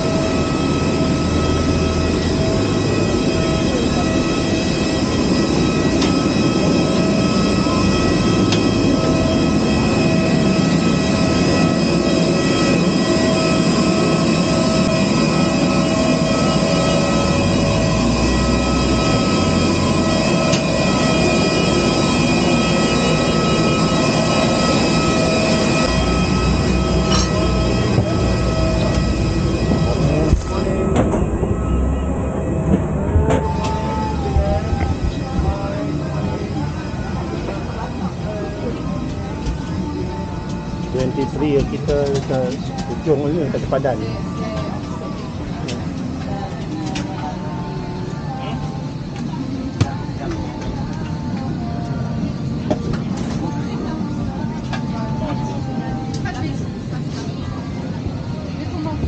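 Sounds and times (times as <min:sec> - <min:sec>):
jet turbine whine and roar: 0:00.0 - 0:59.0.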